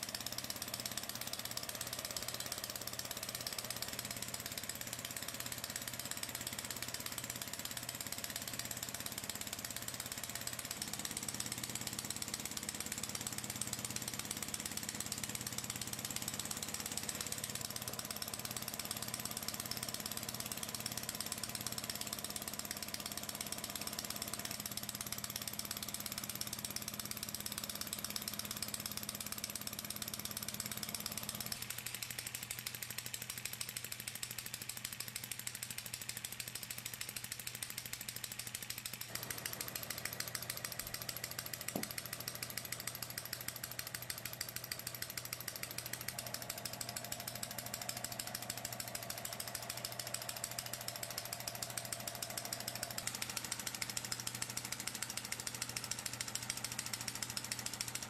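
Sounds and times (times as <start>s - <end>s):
toy pneumatic engine clattering: 0.0s - 58.0s.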